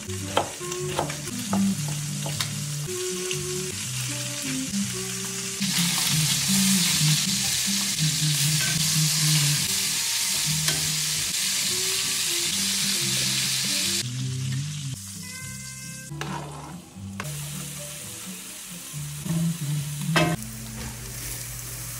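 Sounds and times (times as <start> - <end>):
meat sizzling in a skillet: 0.0 - 15.3, 17.2 - 21.9.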